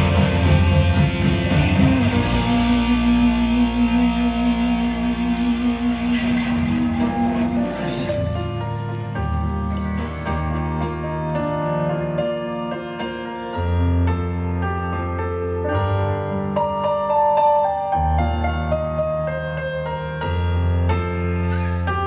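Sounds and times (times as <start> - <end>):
keyboard melody: 0.0 - 22.0
live rock band playing: 0.0 - 22.0.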